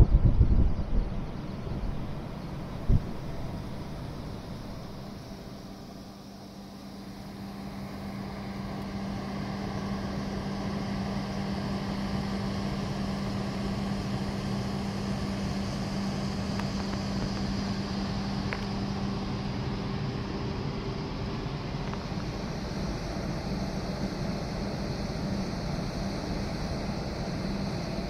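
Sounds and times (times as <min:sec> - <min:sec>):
droning machinery hum: 0:00.0 - 0:28.0
open-air noise: 0:00.0 - 0:28.0.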